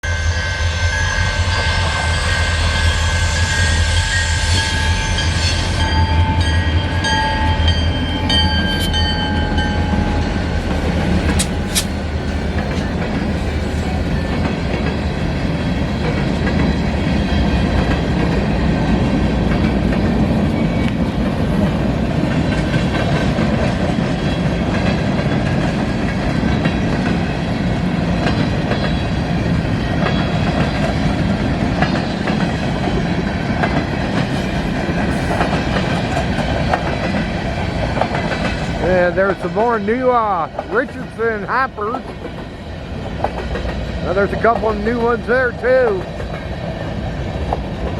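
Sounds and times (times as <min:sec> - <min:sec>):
diesel locomotive rumble: 0:00.7 - 0:47.9
freight cars rolling on rails: 0:03.8 - 0:47.9.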